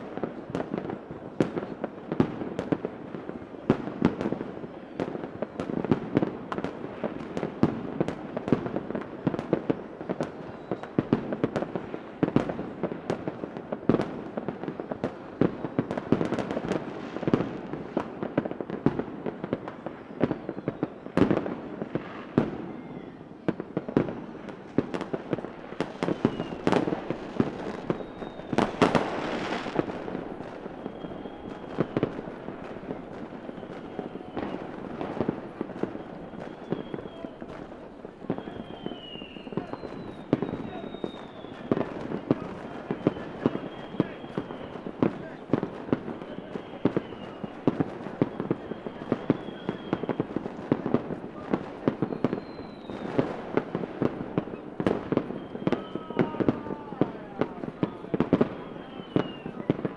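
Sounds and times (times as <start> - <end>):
fireworks bangs and cracks: 0.0 - 59.9
rising whistles of rockets: 0.0 - 59.9
steady crackle of fireworks: 0.0 - 59.9.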